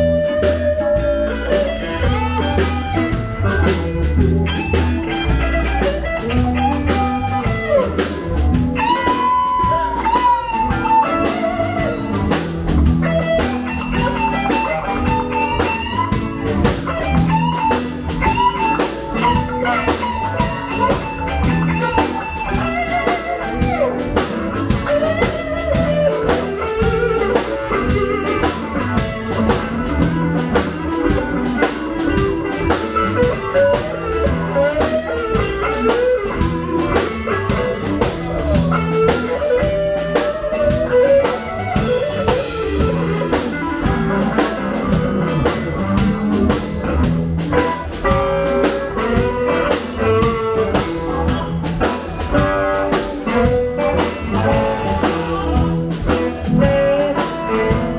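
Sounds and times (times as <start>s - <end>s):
drum kit steady beat: 0.0s - 57.9s
electric guitar lead lines: 0.0s - 57.9s.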